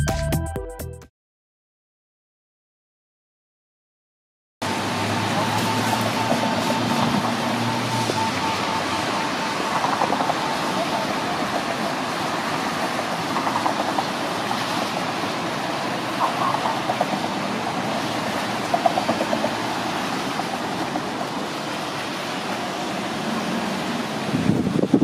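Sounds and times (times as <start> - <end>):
city street traffic roar: 4.6 - 25.0.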